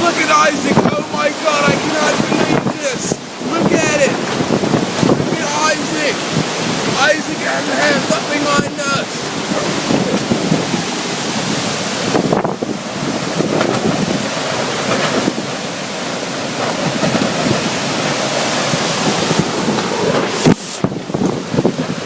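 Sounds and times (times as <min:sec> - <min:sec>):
gusty wind on microphone: 0:00.0 - 0:22.0.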